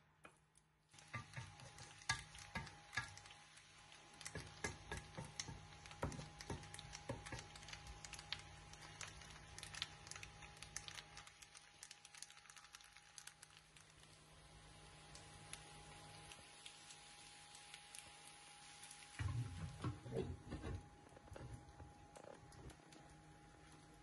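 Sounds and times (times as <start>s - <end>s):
pasta crackling in oil: 0.5s - 24.0s.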